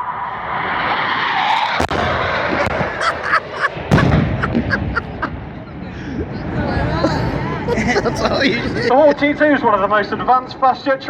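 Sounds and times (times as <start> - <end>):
jet aircraft passing: 0.0 - 8.9.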